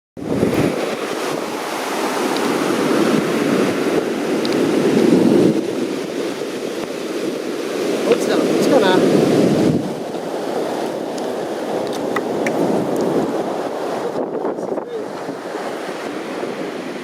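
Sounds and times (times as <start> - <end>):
ocean surf breaking: 0.2 - 17.0
wind buffeting microphone: 0.2 - 17.0.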